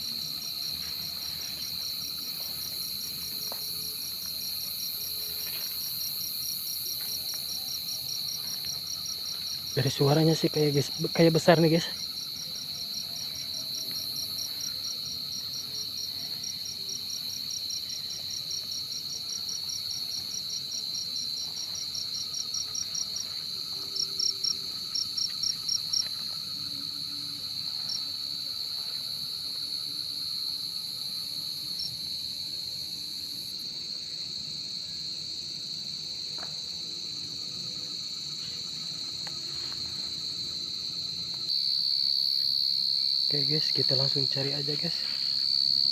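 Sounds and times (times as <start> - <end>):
crickets high continuous trill: 0.0 - 45.9
field cricket chirping: 0.0 - 45.9.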